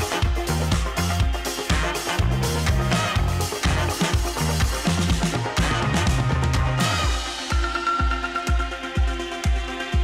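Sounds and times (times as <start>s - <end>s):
dance music with bass line: 0.0s - 10.0s.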